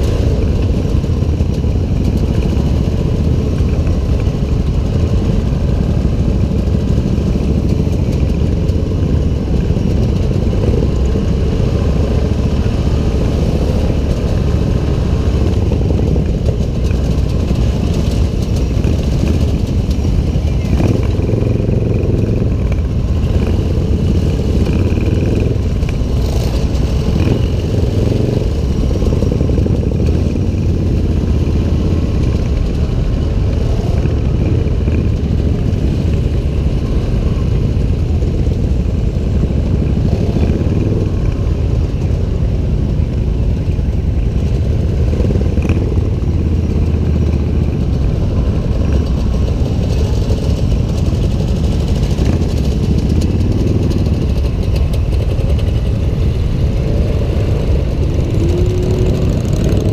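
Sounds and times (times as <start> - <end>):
motorcycle engines rumbling: 0.0 - 59.9.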